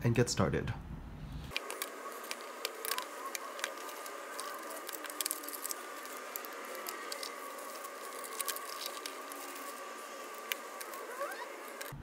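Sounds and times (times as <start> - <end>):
cardboard box rustling: 1.5 - 12.0.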